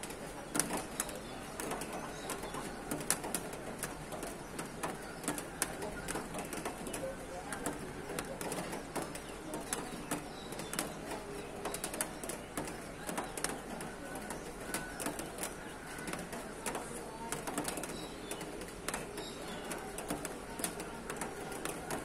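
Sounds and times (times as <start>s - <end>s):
birds chirping: 0.4s - 22.0s.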